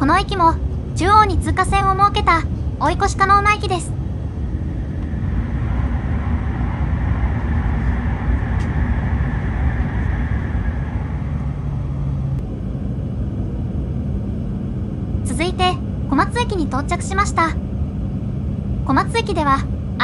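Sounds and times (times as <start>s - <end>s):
train cabin rumble: 0.0s - 19.6s.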